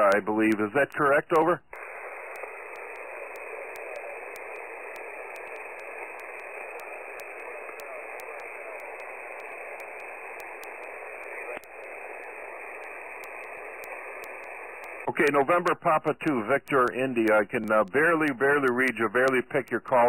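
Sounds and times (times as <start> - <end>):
radio click: 0.0 - 20.0
radio static hiss: 0.0 - 20.0
weak radio voice: 0.0 - 20.0.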